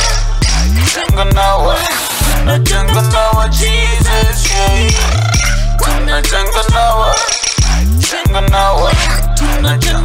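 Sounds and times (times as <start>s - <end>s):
hip hop song with rapping: 0.0s - 10.0s.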